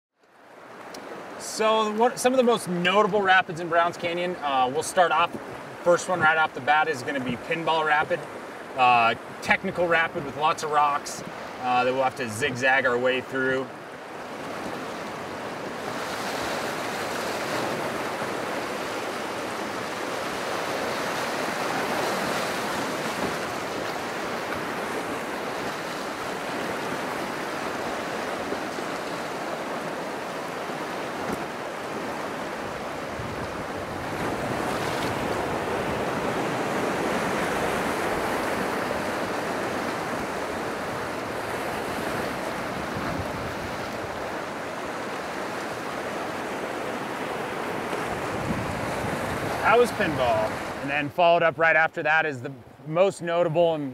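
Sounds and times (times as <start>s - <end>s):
river rapid rushing over rocks: 1.1s - 51.1s.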